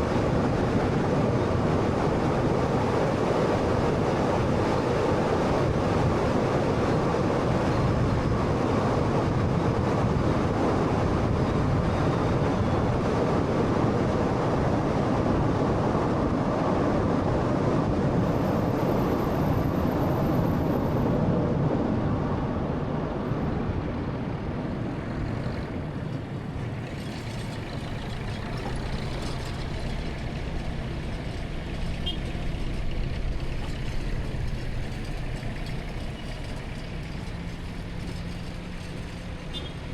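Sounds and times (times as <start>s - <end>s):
road and tyre noise: 0.0s - 39.9s.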